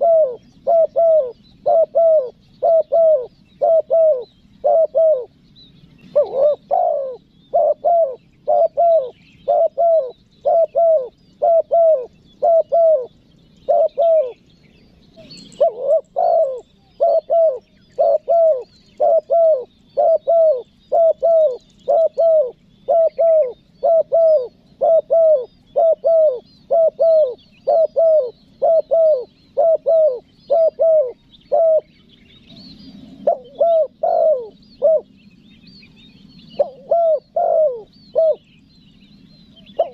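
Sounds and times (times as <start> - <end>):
dove cooing: 0.0 - 35.3, 36.4 - 38.5, 39.5 - 39.9
small birds chirping: 0.0 - 39.9.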